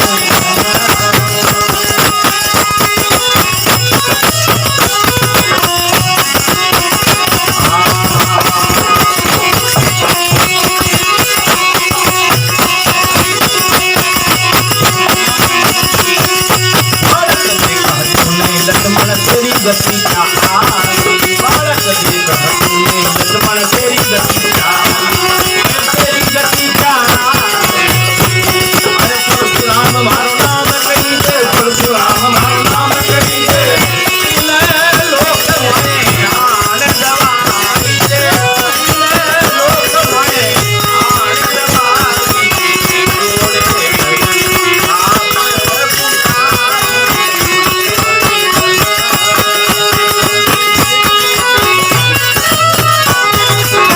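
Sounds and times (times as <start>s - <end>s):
devotional song melody: 0.0s - 53.9s
hand percussion: 0.0s - 53.9s.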